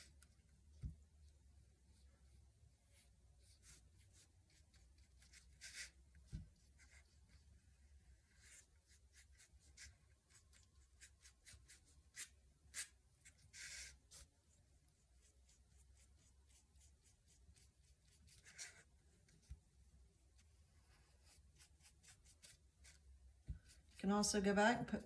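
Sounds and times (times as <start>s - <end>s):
paintbrush stroking on paper: 0.0s - 24.2s.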